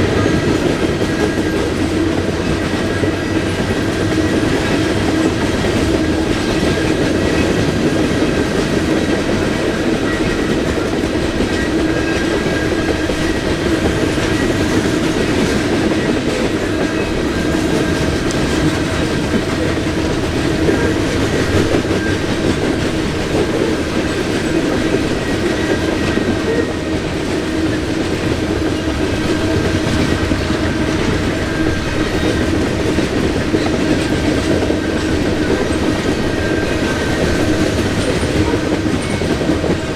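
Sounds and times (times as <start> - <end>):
freight train rumble and wheel clatter: 0.0 - 39.9.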